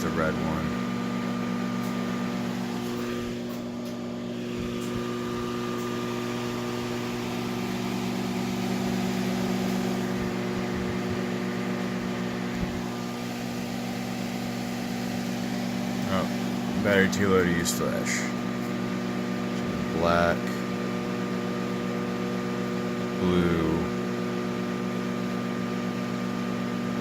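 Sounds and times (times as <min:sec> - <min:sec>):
electrical appliance hum: 0:00.0 - 0:27.0.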